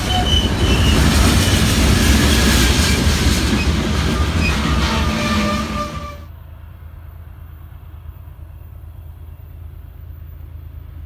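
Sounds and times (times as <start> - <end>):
distant diesel locomotive rumble: 0.0 - 11.0
freight cars rolling past: 0.0 - 11.0.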